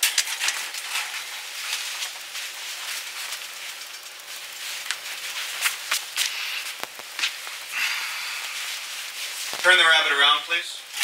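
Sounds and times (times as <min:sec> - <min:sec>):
film soundtrack surface hiss: 0:00.0 - 0:11.0.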